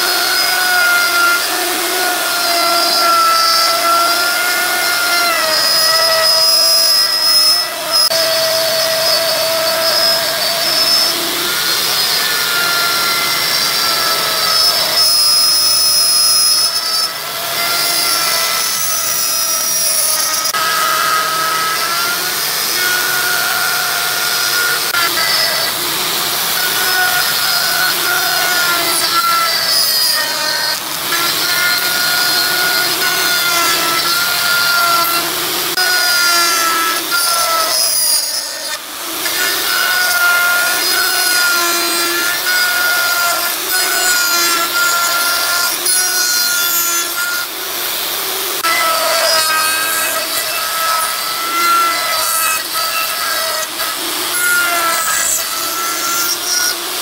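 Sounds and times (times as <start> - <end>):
saw cutting wood: 0.0 - 57.0.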